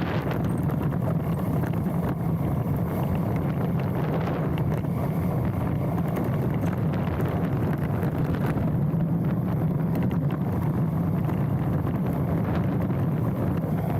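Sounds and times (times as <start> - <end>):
bike tyres rumbling and rattling: 0.0 - 13.9
wind rush on microphone: 0.0 - 13.9.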